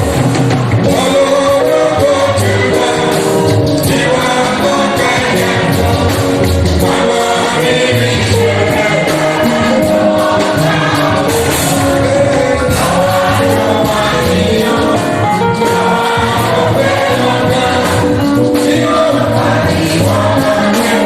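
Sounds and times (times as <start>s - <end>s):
choir singing gospel: 0.0s - 21.0s
instrumental accompaniment: 0.0s - 21.0s
percussion: 0.0s - 21.0s.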